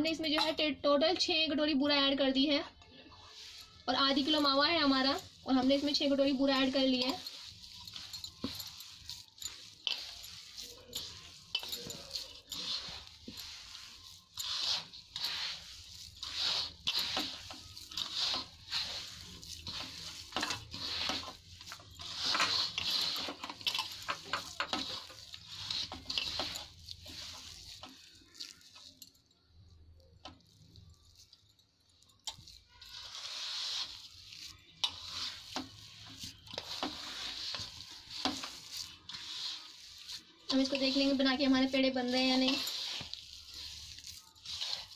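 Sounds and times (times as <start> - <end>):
hand mixing gritty rustling scraping: 3.1 - 44.9.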